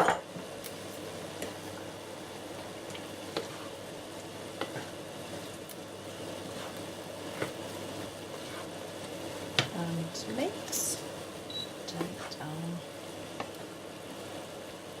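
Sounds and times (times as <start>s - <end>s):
sauce sizzling in a wok: 0.2s - 15.0s.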